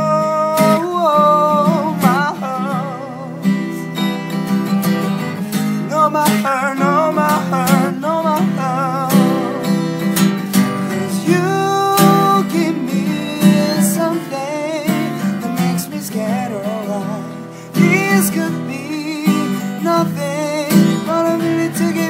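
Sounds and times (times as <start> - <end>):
man singing with vibrato: 0.0 - 22.0
strummed acoustic guitar: 0.0 - 22.0.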